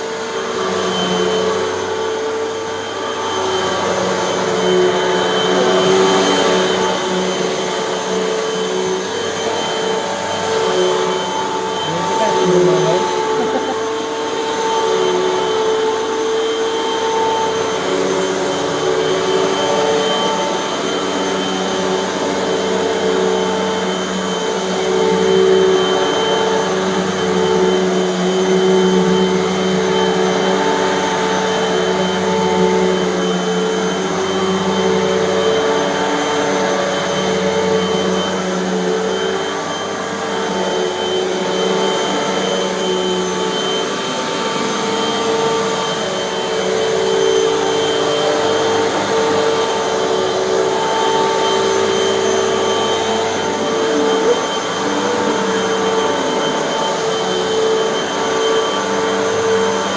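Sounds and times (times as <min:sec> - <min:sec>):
vacuum cleaner on carpet: 0:00.0 - 0:59.9.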